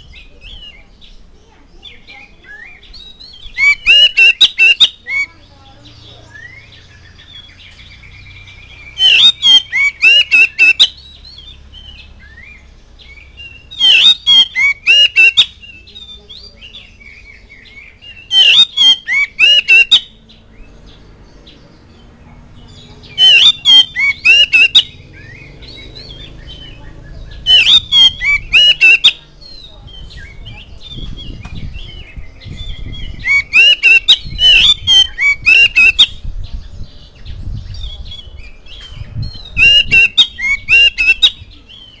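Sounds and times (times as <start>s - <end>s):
bird singing whistled phrases: 2.0s - 5.4s, 6.3s - 20.2s, 23.1s - 36.2s, 37.6s - 42.0s.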